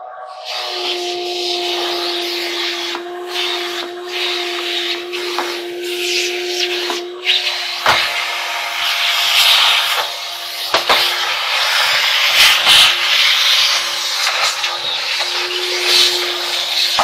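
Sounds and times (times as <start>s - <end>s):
shop vac whining: 0.0s - 17.0s.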